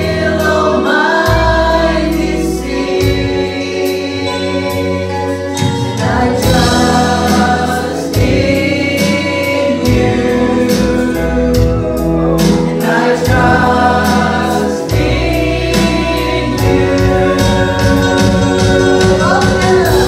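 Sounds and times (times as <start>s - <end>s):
band with bass and beat: 0.0s - 20.0s
voices singing gospel music: 0.0s - 20.0s.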